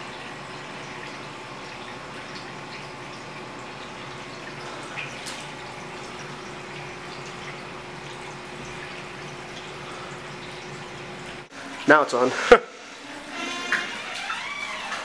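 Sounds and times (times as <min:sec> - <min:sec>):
water dripping: 0:00.0 - 0:12.2
running floodwater: 0:00.0 - 0:15.0.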